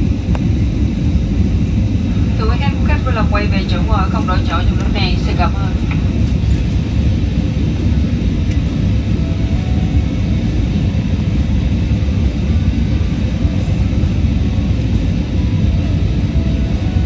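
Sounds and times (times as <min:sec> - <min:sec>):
airplane cabin engine rumble: 0:00.0 - 0:17.0
faint music: 0:00.0 - 0:17.0.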